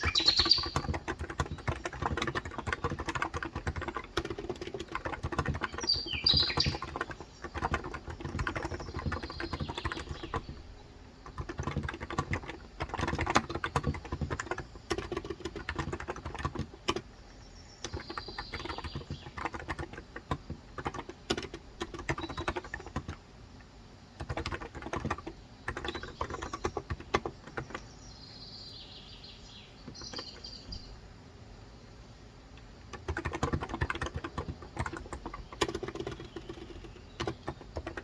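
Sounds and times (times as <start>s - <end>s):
fast keyboard typing: 0.0s - 17.1s, 17.8s - 23.2s, 24.2s - 27.9s, 29.8s - 30.4s, 32.9s - 38.0s
bird chirping: 0.0s - 19.8s, 20.8s - 23.2s, 25.0s - 31.0s, 33.2s - 38.0s.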